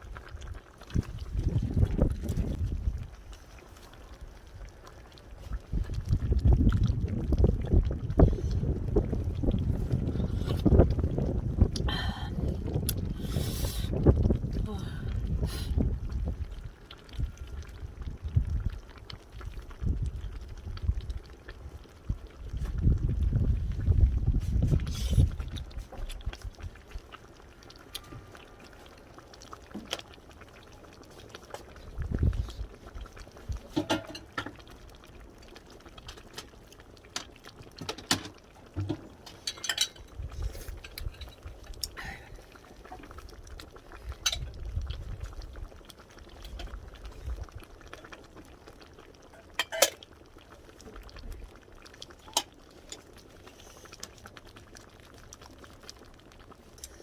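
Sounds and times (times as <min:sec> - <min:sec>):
soup simmering in a pot: 0:00.0 - 0:57.0
wood fire: 0:00.0 - 0:57.0.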